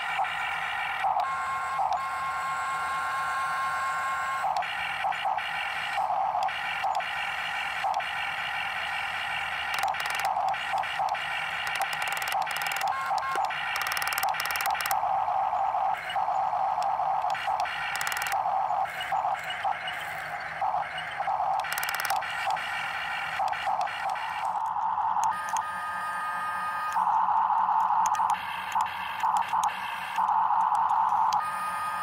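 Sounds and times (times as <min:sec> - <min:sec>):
toy excavator motors whining: 0:00.0 - 0:32.0.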